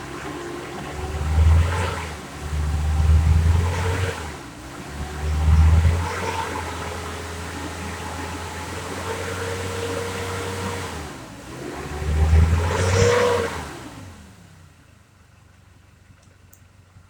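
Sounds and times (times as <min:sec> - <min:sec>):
diesel engine running and revving: 0:00.0 - 0:15.0.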